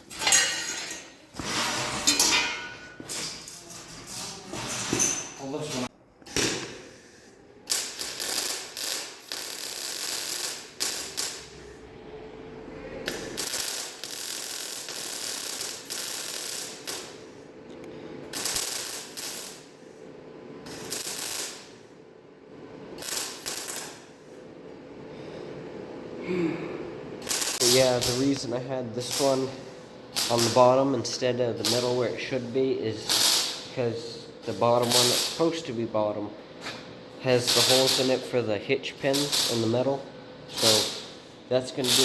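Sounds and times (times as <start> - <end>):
arc welder welding steel: 0.0 - 11.8, 13.0 - 17.5, 18.2 - 20.0, 20.6 - 21.9, 22.9 - 24.4, 27.2 - 35.8, 36.7 - 42.0.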